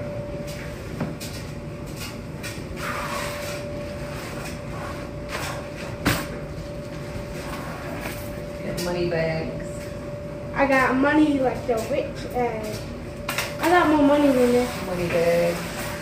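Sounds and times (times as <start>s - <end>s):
tumble dryer humming: 0.0s - 16.0s.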